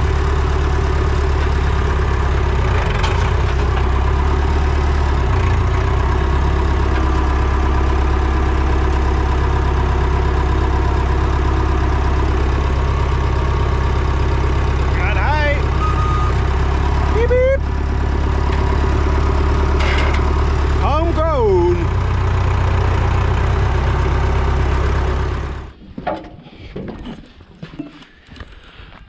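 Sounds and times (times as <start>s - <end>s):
tractor engine droning: 0.0s - 26.2s.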